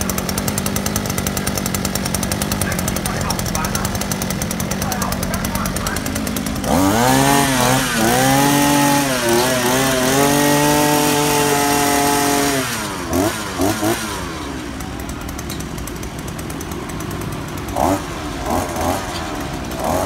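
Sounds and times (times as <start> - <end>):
small two-stroke engine revving: 0.0 - 20.0.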